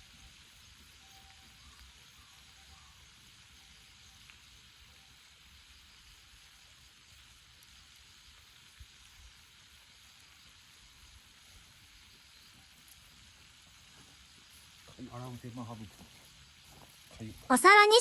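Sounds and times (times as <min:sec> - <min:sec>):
meat sizzling on a griddle: 0:00.0 - 0:17.5.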